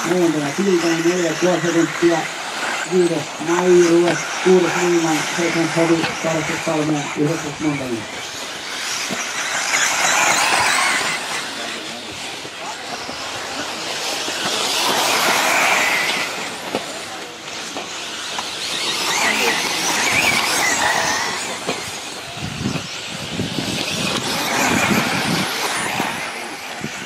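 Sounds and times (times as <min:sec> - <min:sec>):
rc car motors whining: 0:00.0 - 0:27.0.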